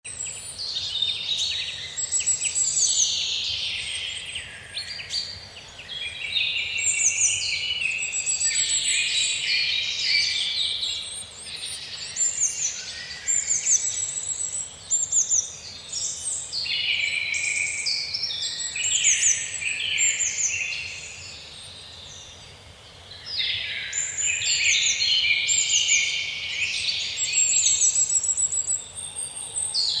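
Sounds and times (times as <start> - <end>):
faint background hiss: 0.1 - 30.0
songbirds singing: 0.1 - 30.0.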